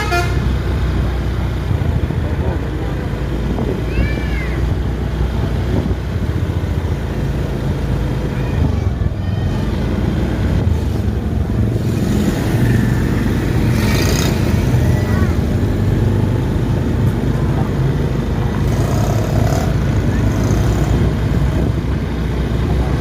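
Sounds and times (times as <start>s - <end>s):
road traffic noise: 0.0s - 23.0s
engine running: 4.4s - 23.0s.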